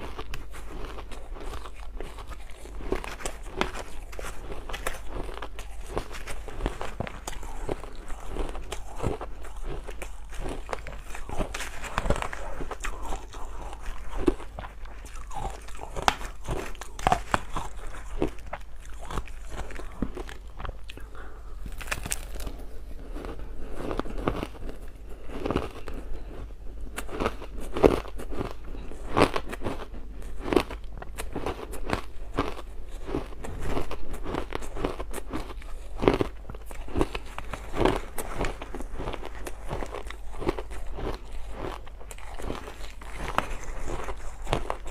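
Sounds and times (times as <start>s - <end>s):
ice crunching between teeth: 0.0s - 44.9s.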